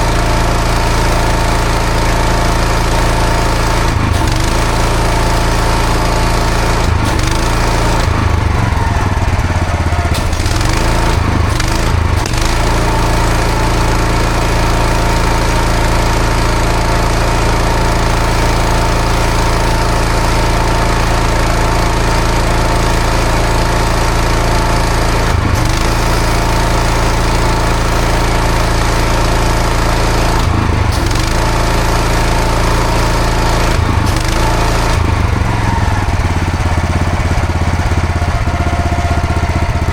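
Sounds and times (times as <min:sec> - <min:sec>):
pressure washer engine droning: 0:00.0 - 0:39.9
water jet hissing on paving: 0:00.0 - 0:39.9.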